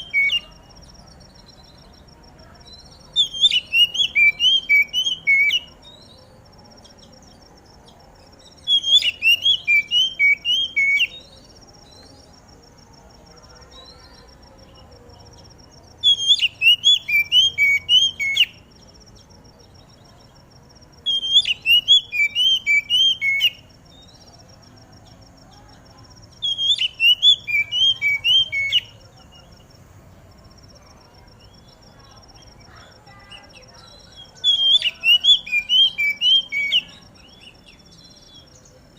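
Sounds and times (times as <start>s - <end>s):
bird singing whistled notes: 0.0s - 12.4s, 13.7s - 29.7s, 30.7s - 38.9s.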